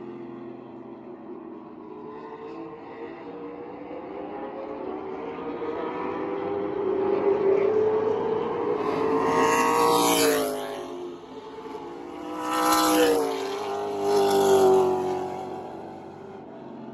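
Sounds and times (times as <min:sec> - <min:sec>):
race car engines passing: 0:00.0 - 0:16.9.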